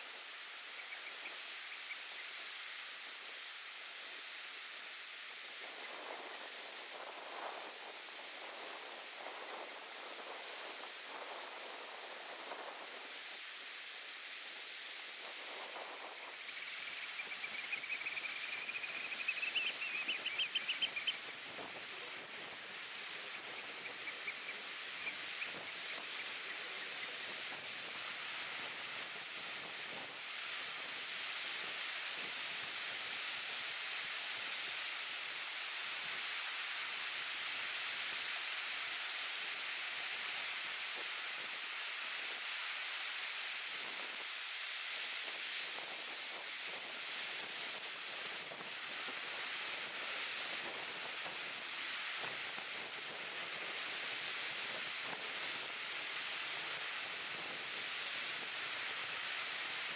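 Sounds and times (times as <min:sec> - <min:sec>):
surf washing onto beach: 0:00.0 - 0:59.9.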